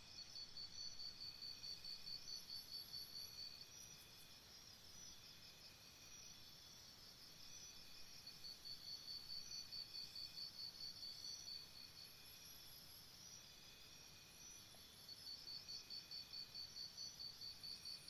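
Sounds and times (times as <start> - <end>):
cricket chirping: 0.0 - 18.0.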